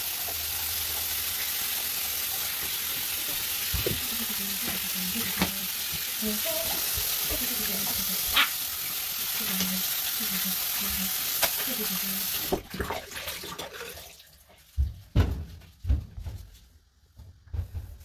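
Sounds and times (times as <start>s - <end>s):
water running from a tap: 0.0s - 14.6s.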